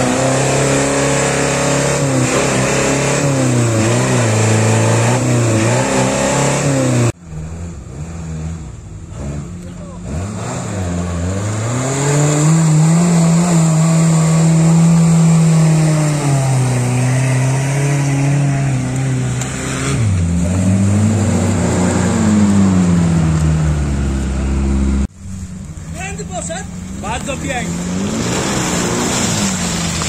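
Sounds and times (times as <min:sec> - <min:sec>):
off-road vehicle engines revving: 0:00.0 - 0:30.0.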